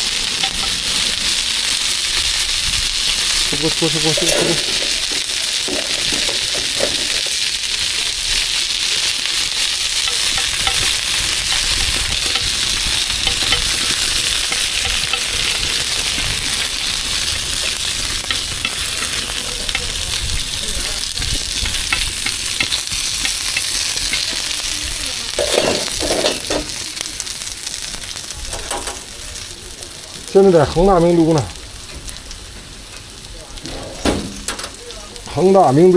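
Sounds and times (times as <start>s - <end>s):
food sizzling in hot oil: 0.0s - 35.9s.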